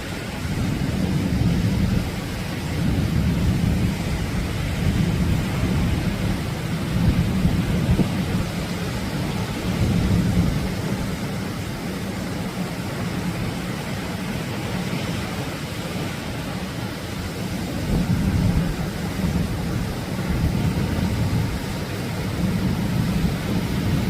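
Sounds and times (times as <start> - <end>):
ocean waves breaking on beach: 0.0 - 24.0.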